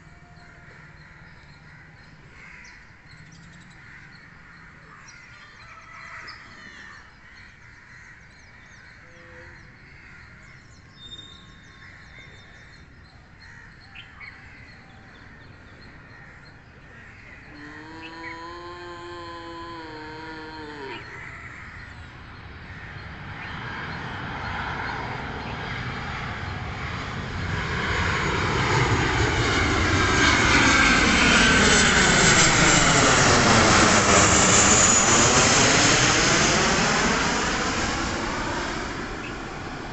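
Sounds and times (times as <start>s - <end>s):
jet airliner flying overhead: 0.0s - 39.9s.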